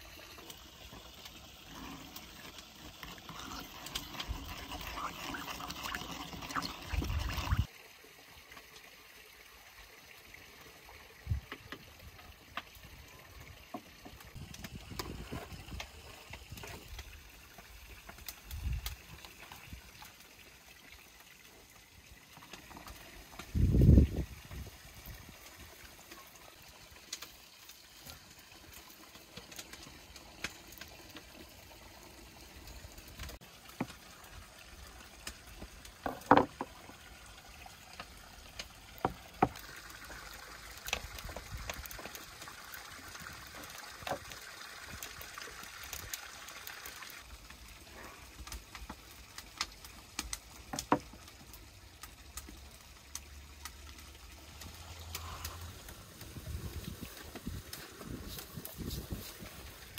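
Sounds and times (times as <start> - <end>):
water running: 0.0 - 59.9.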